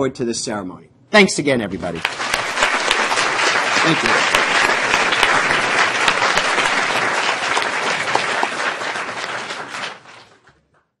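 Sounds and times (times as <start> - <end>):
audience applauding: 1.9 - 10.9.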